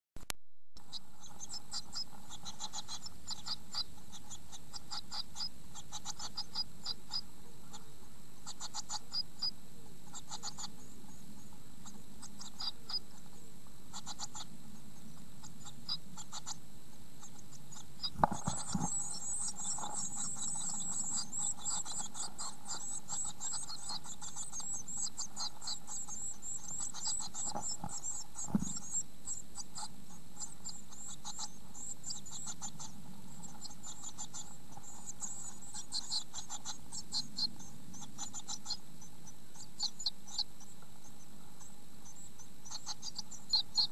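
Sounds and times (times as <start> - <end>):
nestlings begging calls: 0.8 - 43.9.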